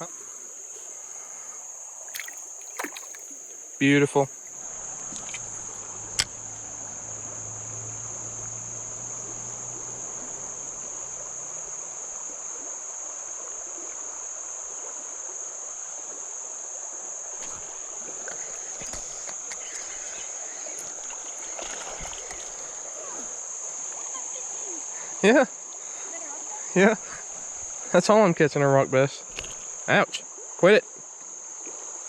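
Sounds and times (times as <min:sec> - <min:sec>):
high-pitched insect drone: 0:00.0 - 0:30.6
creek water running: 0:00.0 - 0:32.0.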